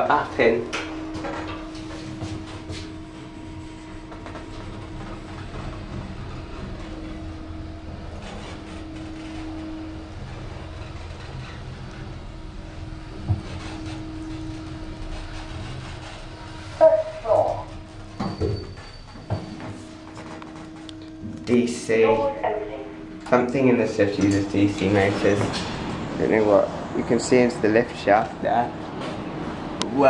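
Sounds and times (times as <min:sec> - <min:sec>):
lift car rumble and hum: 0:00.0 - 0:30.0.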